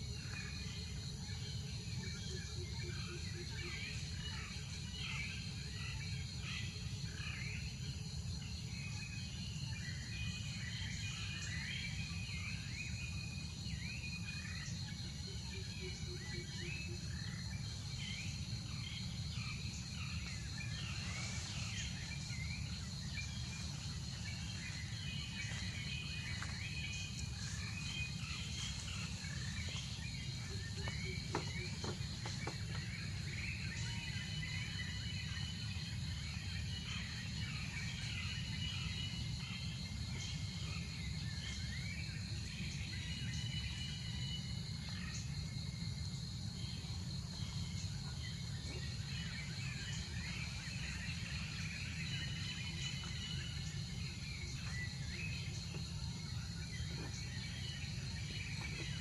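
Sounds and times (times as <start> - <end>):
insects high tone: 0.0 - 59.0.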